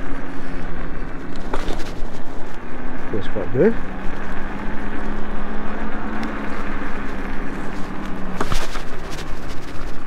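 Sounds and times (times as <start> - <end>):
electric scooter humming: 0.0 - 10.0.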